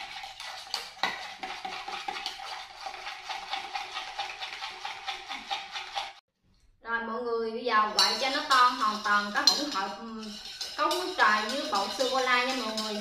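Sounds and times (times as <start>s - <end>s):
spoon stirring in a cup: 0.0s - 6.2s, 7.9s - 13.0s.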